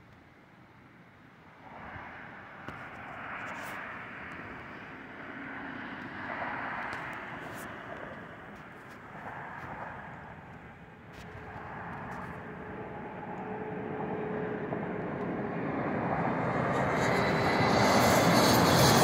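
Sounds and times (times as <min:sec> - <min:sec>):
airplane flying overhead: 0:00.2 - 0:19.0.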